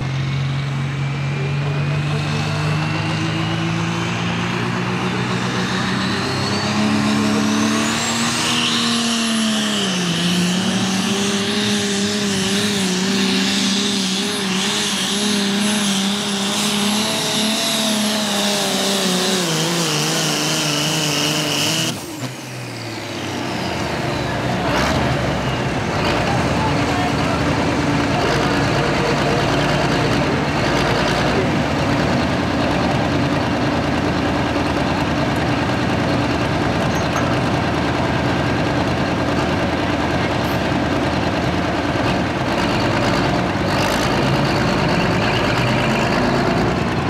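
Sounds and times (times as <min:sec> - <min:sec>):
diesel engine running hard: 0:00.0 - 0:47.0.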